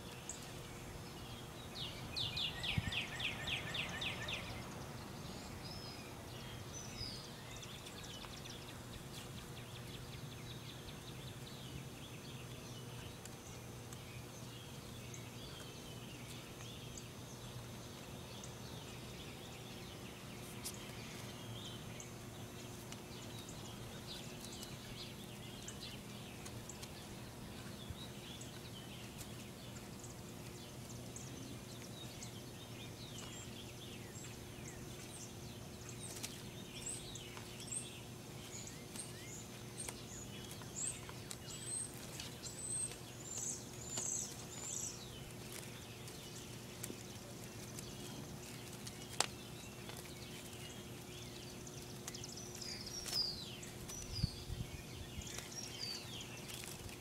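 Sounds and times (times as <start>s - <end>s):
birds chirping: 0.0s - 57.0s
steady low hum: 0.0s - 57.0s.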